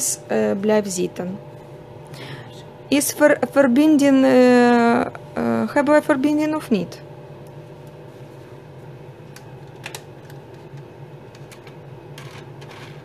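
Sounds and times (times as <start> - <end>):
dust collector fan humming: 0.0 - 13.0.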